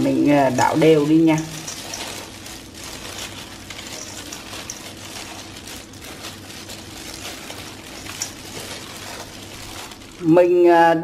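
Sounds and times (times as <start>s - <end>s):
wet salad rustling in a bowl: 0.0s - 10.9s
low steady hum: 0.0s - 11.0s
plastic gloves crinkling: 0.0s - 11.0s.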